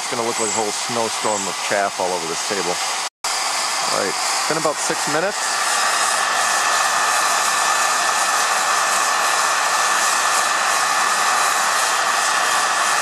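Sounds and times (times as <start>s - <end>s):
heat gun blowing air: 0.0s - 13.0s
thin steady whine: 0.0s - 13.0s
cordless drill turning: 0.2s - 13.0s.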